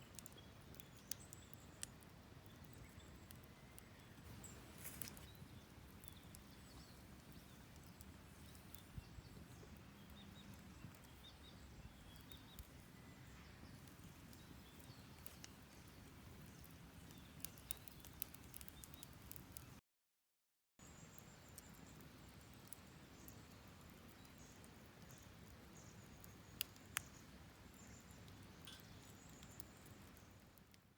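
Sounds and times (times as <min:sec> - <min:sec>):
wood fire crackling: 0:00.0 - 0:19.8, 0:20.9 - 0:30.9.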